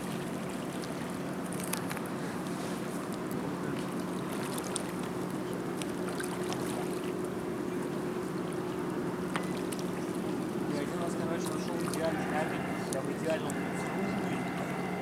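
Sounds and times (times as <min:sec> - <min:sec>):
boat engine humming: 0:00.0 - 0:15.0
water noise: 0:00.0 - 0:15.0.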